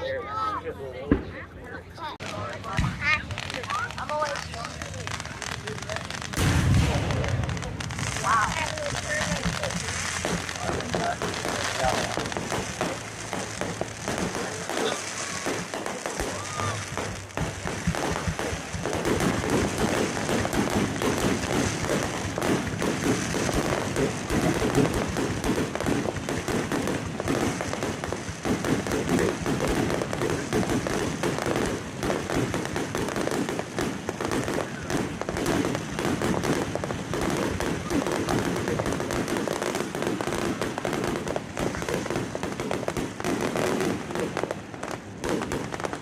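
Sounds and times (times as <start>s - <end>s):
fireworks popping and crackling: 1.0s - 46.0s.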